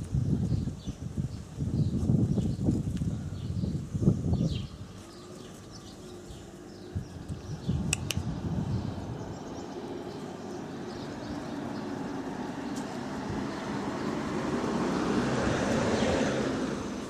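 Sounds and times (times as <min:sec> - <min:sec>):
passing vehicle rumble: 0:03.1 - 0:17.0.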